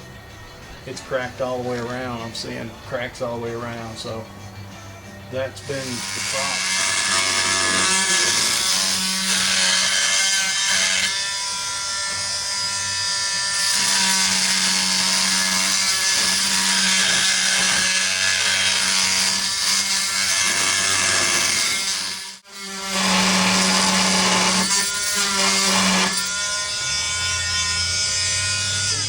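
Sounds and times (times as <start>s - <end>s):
oscillating multi-tool cutting: 5.5s - 29.0s.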